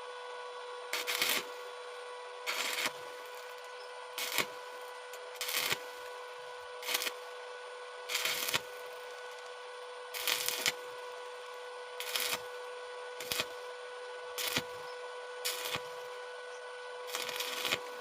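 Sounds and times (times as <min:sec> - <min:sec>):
steady hum: 0:00.0 - 0:18.0
welding arc crackling: 0:00.9 - 0:01.8, 0:02.4 - 0:18.0.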